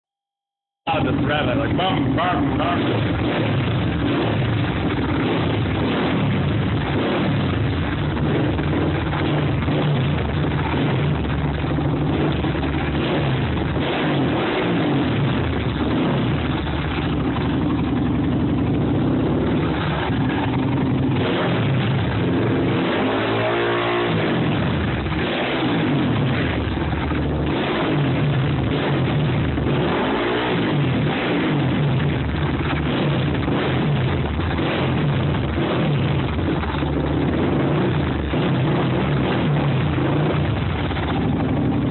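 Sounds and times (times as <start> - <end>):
small engine revving: 0.9 - 17.4, 19.1 - 41.3.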